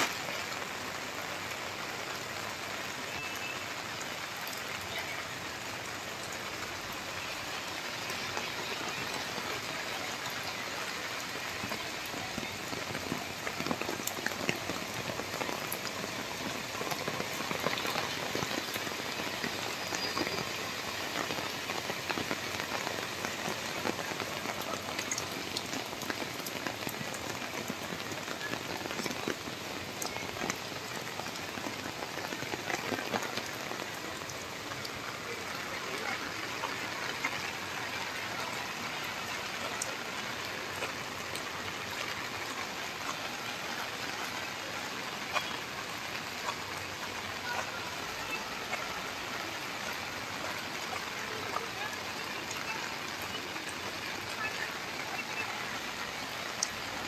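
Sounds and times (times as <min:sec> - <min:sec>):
rain on wet pavement: 0:00.0 - 0:57.0.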